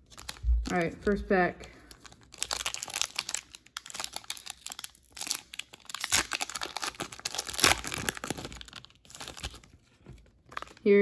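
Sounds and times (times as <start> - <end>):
foil wrapper tearing and crinkling: 0.0 - 1.2, 1.8 - 11.0.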